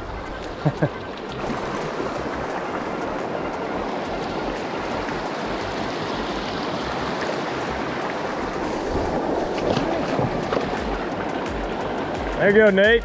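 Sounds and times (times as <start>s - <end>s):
river rushing over rocks: 0.0s - 12.4s.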